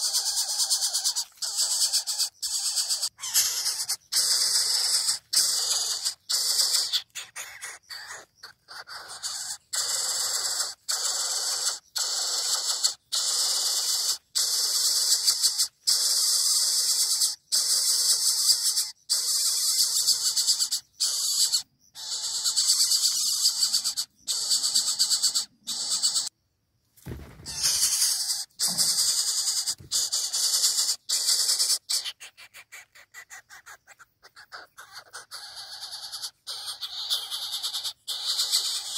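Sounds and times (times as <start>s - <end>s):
bird chick hissing calls: 0.0s - 26.3s, 27.4s - 38.9s.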